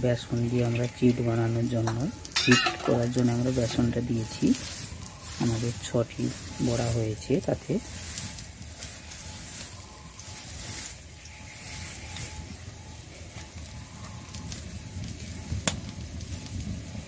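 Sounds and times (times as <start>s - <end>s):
fritters sizzling in oil: 0.0s - 17.0s.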